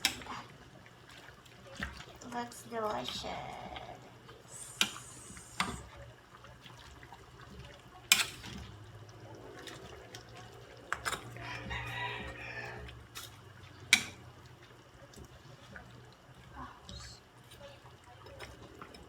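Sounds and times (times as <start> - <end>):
liquid bubbling in a pot: 0.0 - 19.0.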